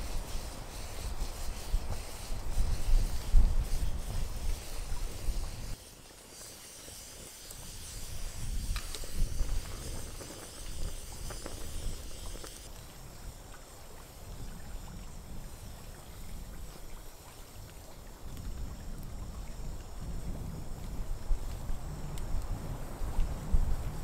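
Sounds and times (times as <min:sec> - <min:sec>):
wind rumble on microphone: 0:00.0 - 0:05.8, 0:06.9 - 0:24.0
wood fire crackling and hissing: 0:00.0 - 0:24.0.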